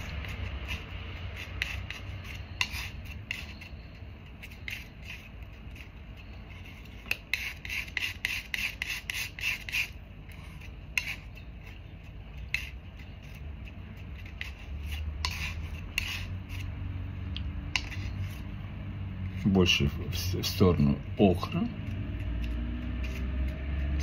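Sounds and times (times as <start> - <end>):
palette knife scraping paint: 0.0 - 16.9, 17.6 - 18.6, 21.8 - 24.0.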